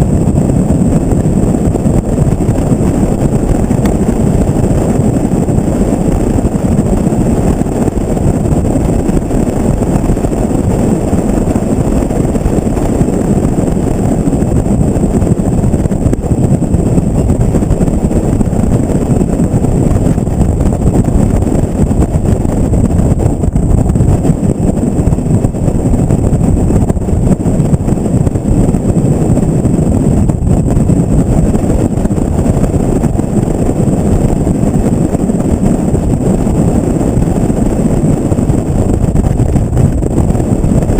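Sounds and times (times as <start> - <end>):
truck road noise rumble: 0.0 - 40.9
wind buffeting microphone: 0.0 - 40.9.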